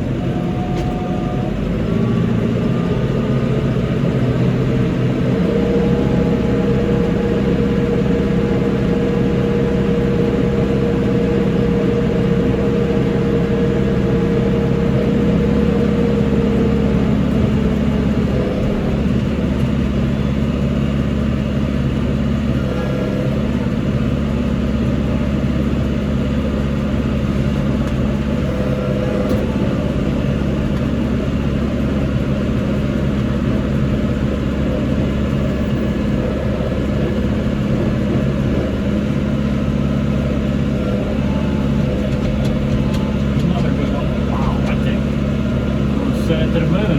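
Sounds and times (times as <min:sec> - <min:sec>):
steady whine: 0:00.0 - 0:46.9
tractor engine running: 0:00.0 - 0:46.9.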